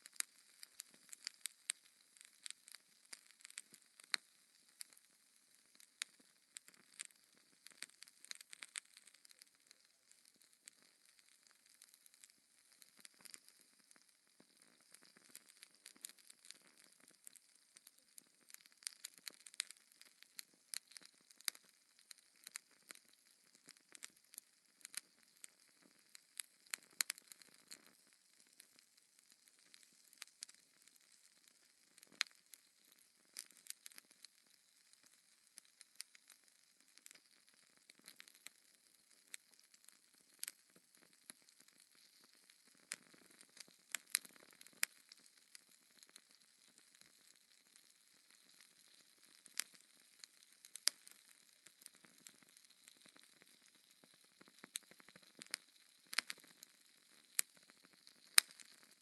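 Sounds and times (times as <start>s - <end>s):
fire crackling in fireplace: 0.0s - 59.0s.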